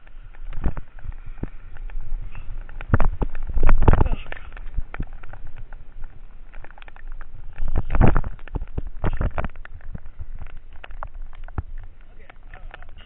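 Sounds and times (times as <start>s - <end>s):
low rumbles: 0.0s - 13.0s
raindrops tapping on camera: 0.0s - 13.0s.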